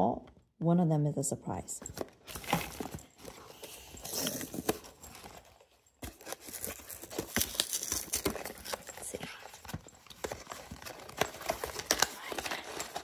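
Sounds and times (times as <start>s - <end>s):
foil and cardboard crinkling: 2.2s - 13.0s.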